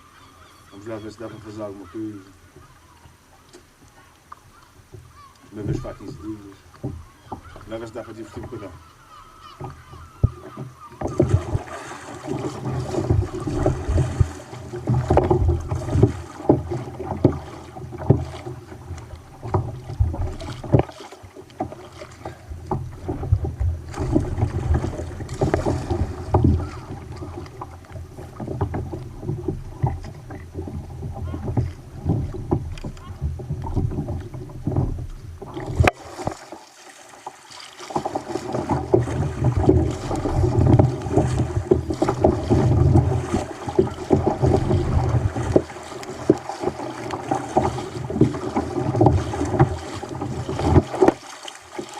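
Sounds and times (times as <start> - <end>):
water slapping against kayak hull: 1.5 - 51.9.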